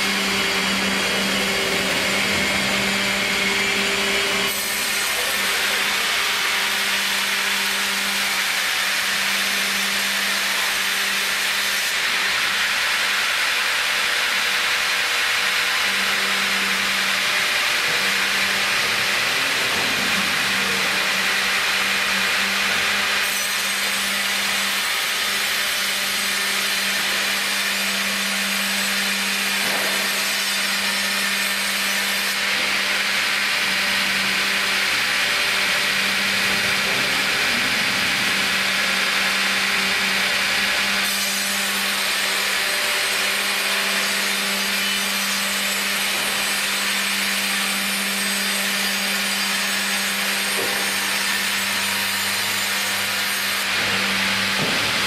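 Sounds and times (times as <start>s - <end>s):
band saw sawing log: 0.0s - 55.0s.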